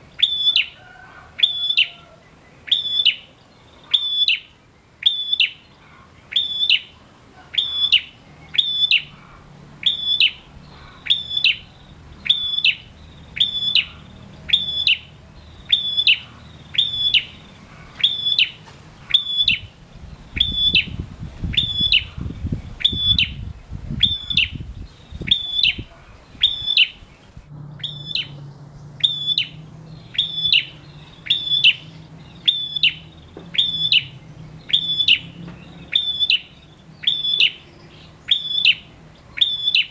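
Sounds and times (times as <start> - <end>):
bird singing sharp high call: 0.1 - 0.8, 1.4 - 9.2, 9.8 - 19.7, 20.3 - 39.9.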